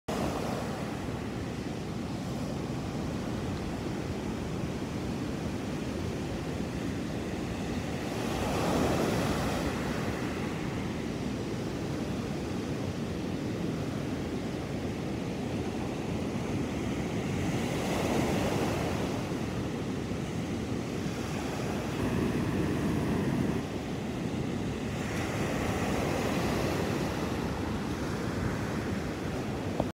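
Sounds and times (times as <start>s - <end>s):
ocean waves breaking on beach: 0.1s - 29.9s.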